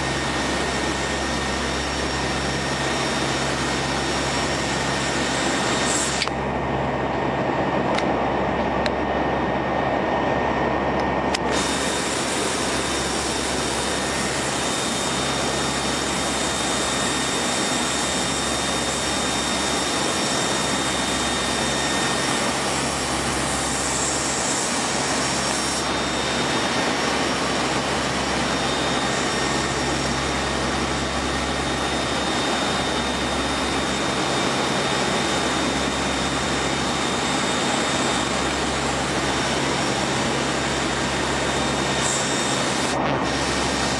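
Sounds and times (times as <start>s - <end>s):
aircraft engines droning: 0.0s - 43.9s
high whines: 0.0s - 43.9s.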